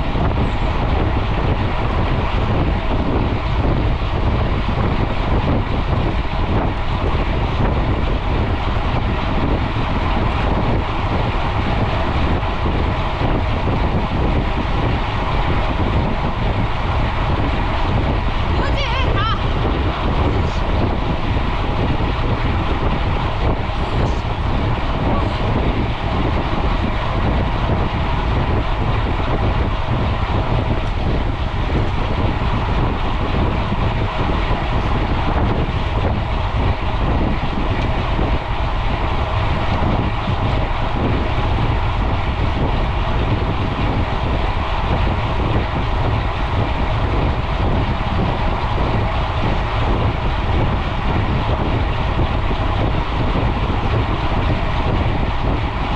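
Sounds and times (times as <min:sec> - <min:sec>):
tyres humming on pavement: 0:00.0 - 0:55.9
wind rushing over microphone: 0:00.0 - 0:55.9.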